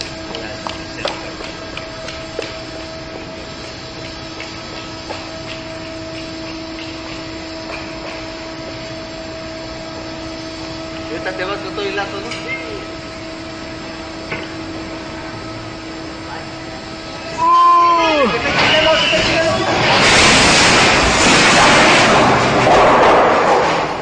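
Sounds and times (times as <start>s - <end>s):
hoist motor humming and whining: 0.0s - 22.6s.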